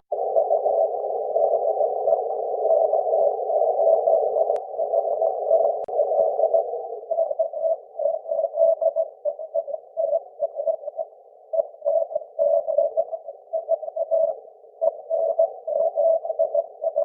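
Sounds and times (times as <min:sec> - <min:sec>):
hissy morse code over radio: 0:00.0 - 0:17.0.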